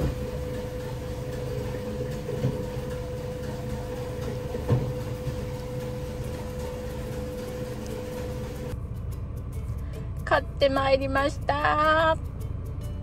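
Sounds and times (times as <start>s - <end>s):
machine humming and rumbling: 0.0s - 13.0s.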